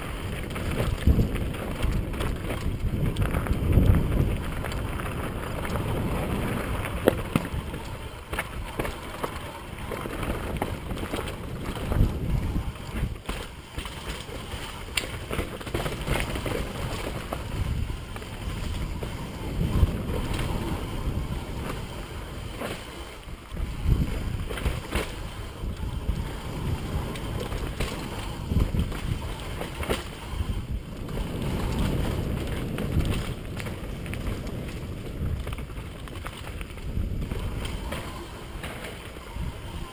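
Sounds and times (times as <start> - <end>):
bike rattling and knocking: 0.0 - 39.9
wind rushing over microphone: 0.0 - 39.9.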